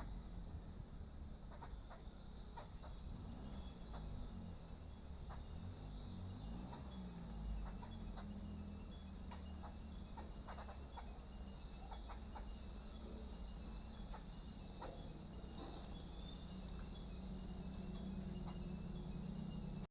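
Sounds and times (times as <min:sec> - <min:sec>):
insects chirping in trills: 0:00.0 - 0:19.9
steady low hum: 0:00.0 - 0:19.9.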